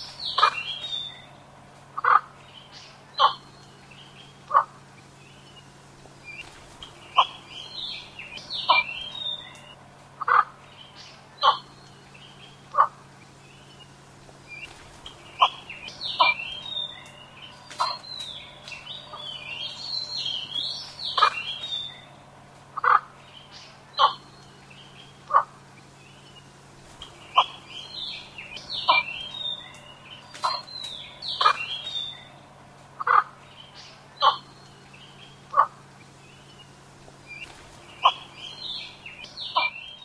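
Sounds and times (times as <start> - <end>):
bird twittering: 0.0 - 1.4, 2.0 - 40.0
heron calling: 0.0 - 40.0.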